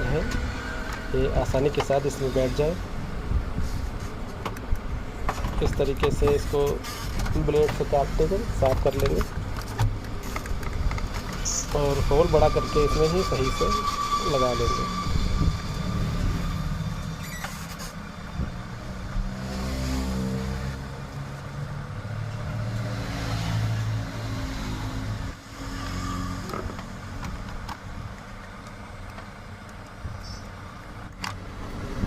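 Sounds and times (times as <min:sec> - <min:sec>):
vehicle engines passing: 0:00.0 - 0:32.0.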